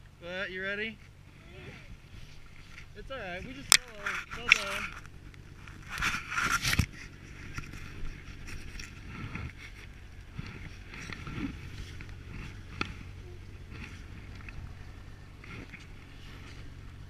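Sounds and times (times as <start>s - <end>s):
snowmobile engine idling: 0.0s - 17.0s.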